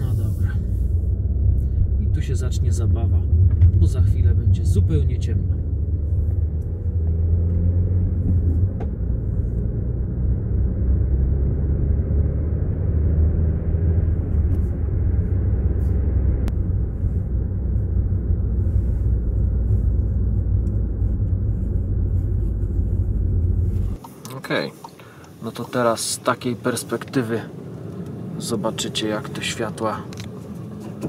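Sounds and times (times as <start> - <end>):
car interior road and engine rumble: 0.0 - 31.0.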